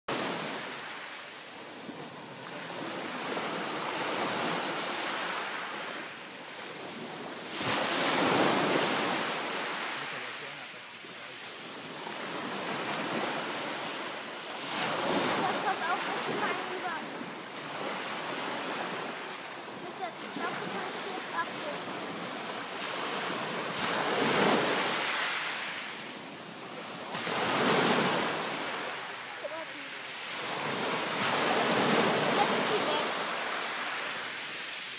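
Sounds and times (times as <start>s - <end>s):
sea waves on pebble beach: 0.1s - 34.9s.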